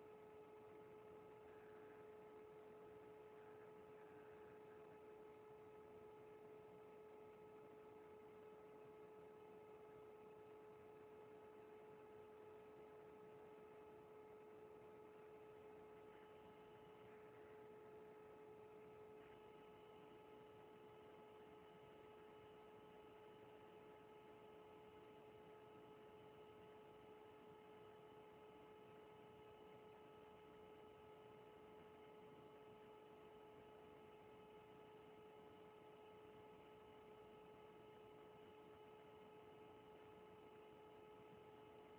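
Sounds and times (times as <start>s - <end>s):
faint electrical hum: 0.0s - 41.9s.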